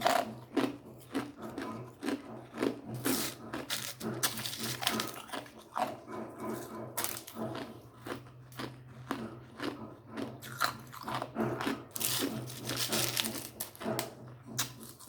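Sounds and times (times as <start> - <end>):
ice crunching between teeth: 0.0 - 6.0, 6.6 - 14.0.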